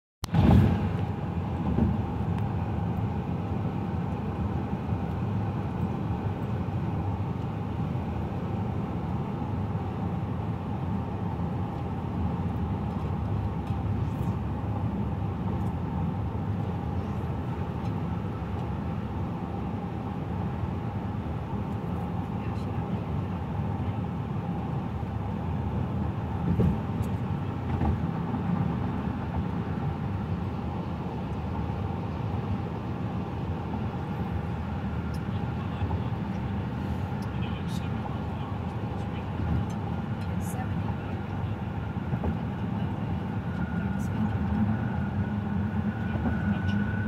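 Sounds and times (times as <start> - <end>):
car tyre and engine hum: 0.2 - 47.0.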